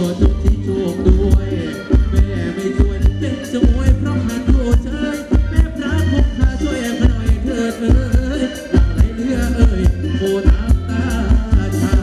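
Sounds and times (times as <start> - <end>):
bass line: 0.0 - 12.0
person singing: 0.0 - 12.0.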